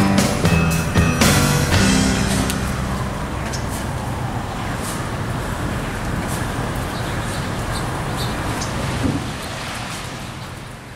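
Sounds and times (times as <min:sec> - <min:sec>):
rain hissing: 0:00.0 - 0:10.9
low thunder rumble: 0:00.3 - 0:10.3.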